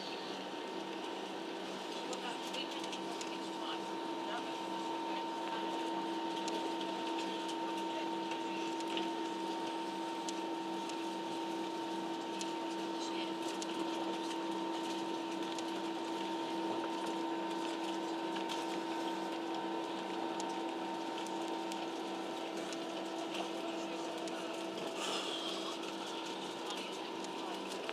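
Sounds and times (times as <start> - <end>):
aircraft cabin hum and whine: 0.0 - 27.9.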